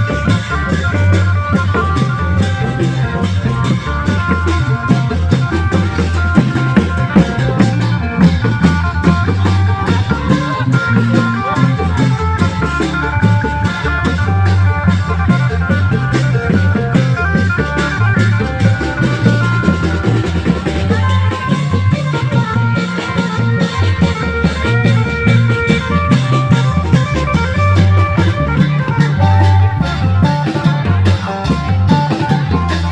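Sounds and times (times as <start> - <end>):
repeating drum beat: 0.0 - 32.9.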